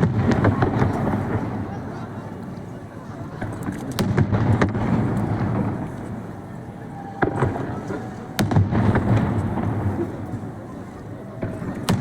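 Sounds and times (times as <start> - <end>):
fireworks bangs: 0.0 - 2.5, 3.2 - 12.0.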